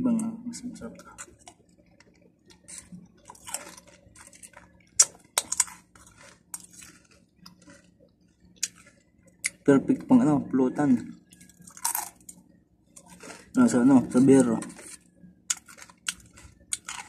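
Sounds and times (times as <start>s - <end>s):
chewing crunchy chips: 0.2s - 10.1s, 10.8s - 17.0s.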